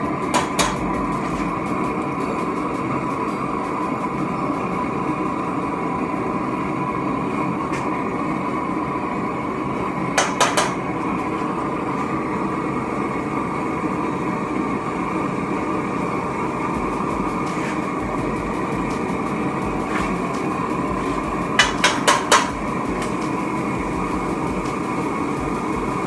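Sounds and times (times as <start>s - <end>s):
furnace rushing roar: 0.0s - 26.0s.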